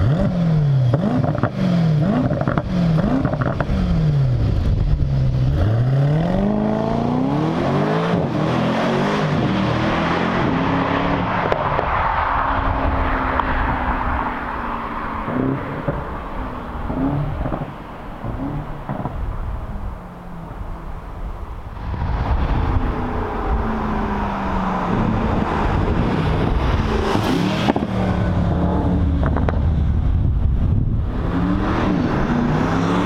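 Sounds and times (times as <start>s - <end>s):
car engine revving: 0.0s - 21.0s, 21.7s - 33.0s.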